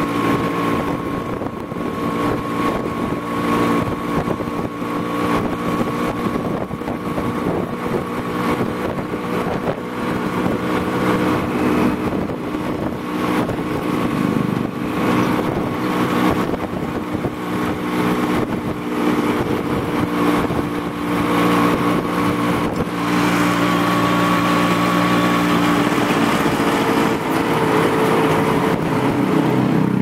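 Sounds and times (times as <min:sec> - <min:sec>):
road and wind noise: 0:00.0 - 0:30.0
vehicle engine hum: 0:00.0 - 0:30.0.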